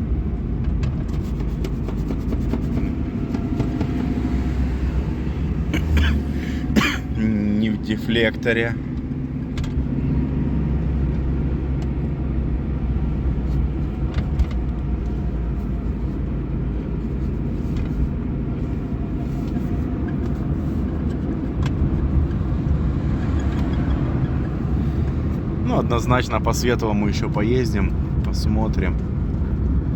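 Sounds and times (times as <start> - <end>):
engine and road rumble in car: 0.0 - 29.9.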